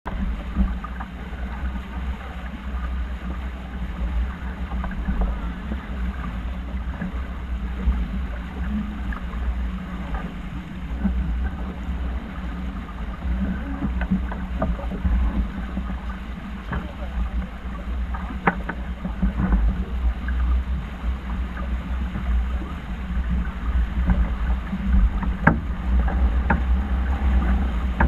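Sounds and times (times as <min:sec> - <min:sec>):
water washing past a hull: 0:00.0 - 0:28.0
wind rumbling on microphone: 0:00.0 - 0:28.0
steady low hum: 0:00.1 - 0:28.0.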